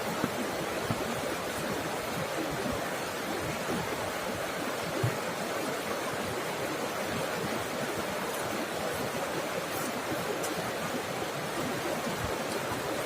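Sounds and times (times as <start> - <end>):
water gurgling: 0.0 - 13.0
waterfall rushing: 0.0 - 13.0.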